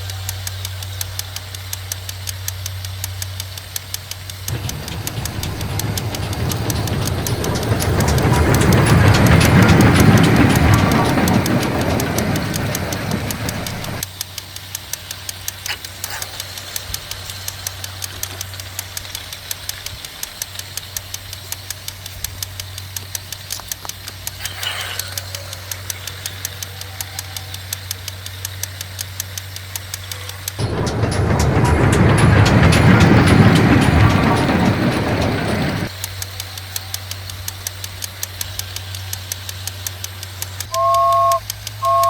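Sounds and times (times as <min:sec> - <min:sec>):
small motor humming and clicking: 0:00.0 - 0:42.0.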